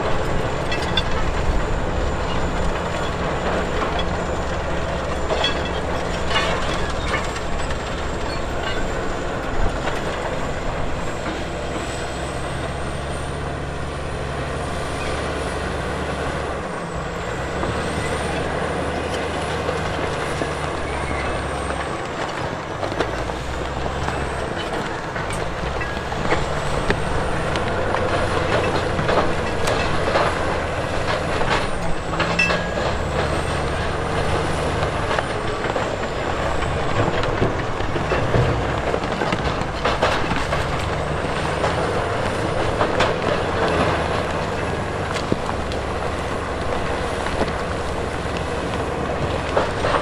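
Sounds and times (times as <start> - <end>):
metal clanking and rattling: 0.0 - 12.8, 17.6 - 50.0
diesel machinery engine: 0.0 - 50.0.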